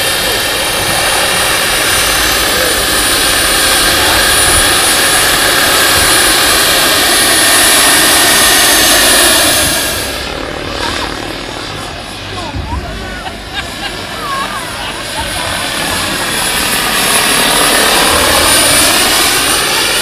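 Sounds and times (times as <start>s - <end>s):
helicopter rotor rushing: 0.0s - 20.0s
high-pitched turbine whine: 0.0s - 20.0s.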